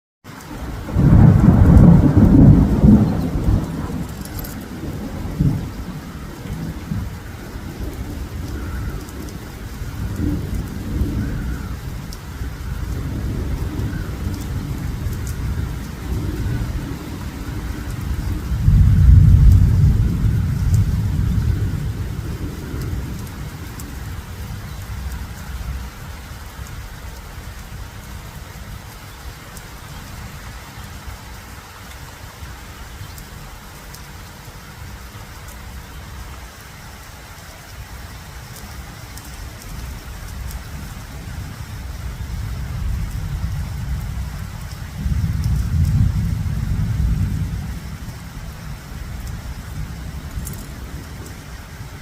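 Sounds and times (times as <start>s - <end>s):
rain falling: 0.2s - 52.0s.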